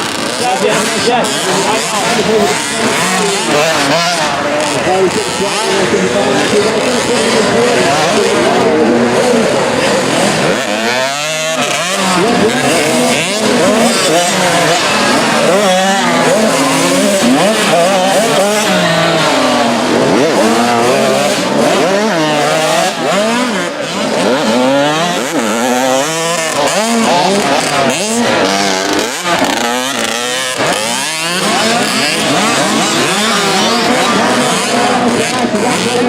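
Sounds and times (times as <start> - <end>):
motocross bikes revving: 0.0 - 36.0.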